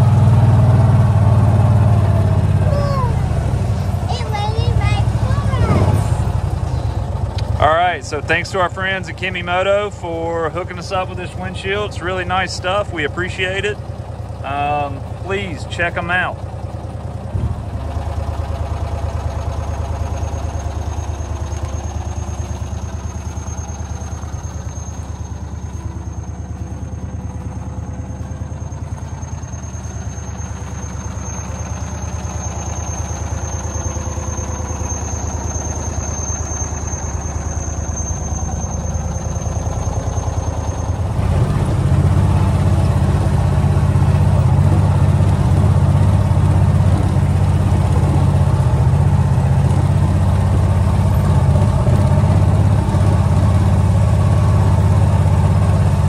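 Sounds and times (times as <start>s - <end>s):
utility vehicle engine droning: 0.0s - 56.0s.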